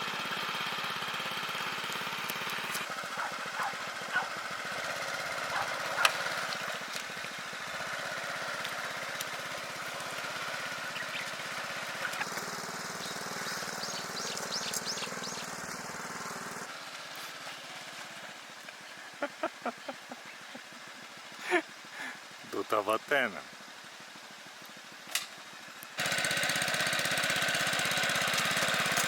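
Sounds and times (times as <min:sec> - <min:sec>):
small engine running: 0:00.0 - 0:22.5, 0:23.2 - 0:29.0.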